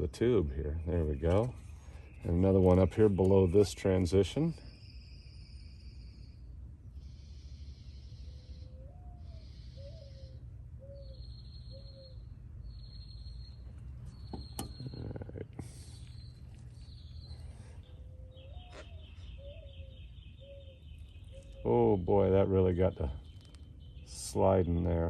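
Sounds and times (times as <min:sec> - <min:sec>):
bird hooting: 0:04.6 - 0:25.0.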